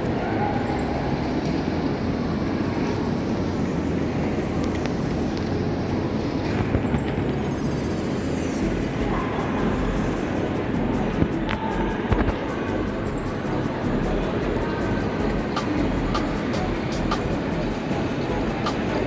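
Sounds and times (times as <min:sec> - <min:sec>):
busy station hall din: 0:00.0 - 0:19.0
train noise: 0:00.0 - 0:19.0.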